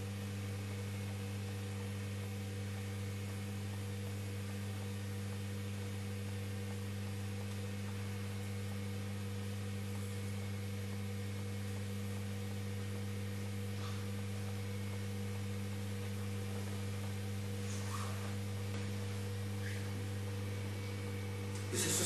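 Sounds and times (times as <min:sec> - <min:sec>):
potter's wheel motor humming: 0:00.0 - 0:22.0.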